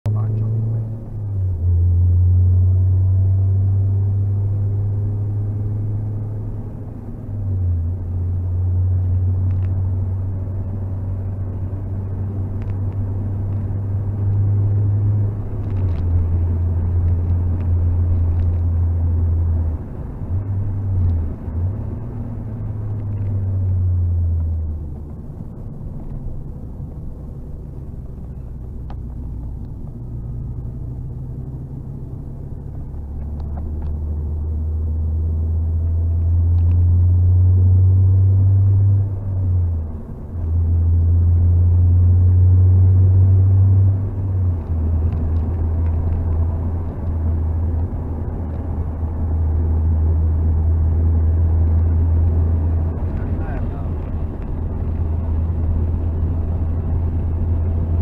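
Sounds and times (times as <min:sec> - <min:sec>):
car engine drone from inside: 0:00.0 - 0:58.0.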